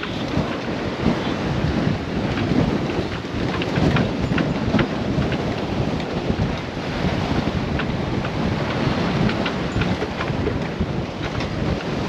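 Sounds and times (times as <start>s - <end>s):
waves splashing along hull: 0.0s - 12.0s
wind buffeting microphone: 0.0s - 12.0s.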